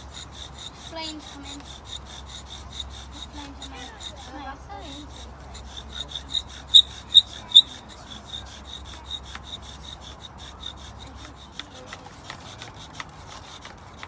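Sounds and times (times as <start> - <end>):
bow drill spindle squeaking: 0.0 - 14.0.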